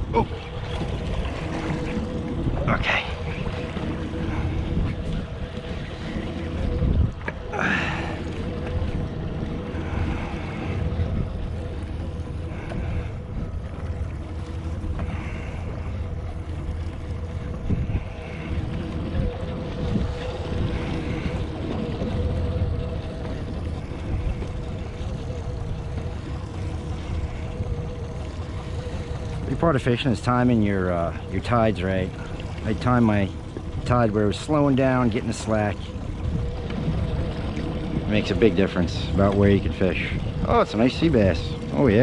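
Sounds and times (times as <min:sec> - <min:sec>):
motor hum: 0:00.0 - 0:42.0
water lapping against boat: 0:00.0 - 0:42.0
wind rumbling on microphone: 0:00.0 - 0:42.0.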